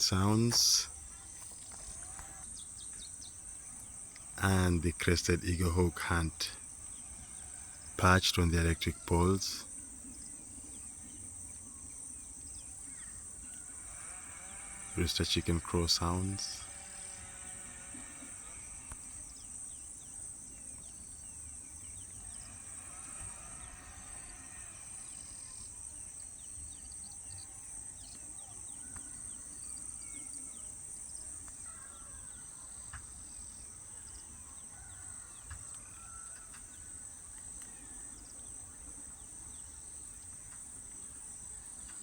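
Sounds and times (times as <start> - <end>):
high-pitched insect trill: 6.6 - 42.0.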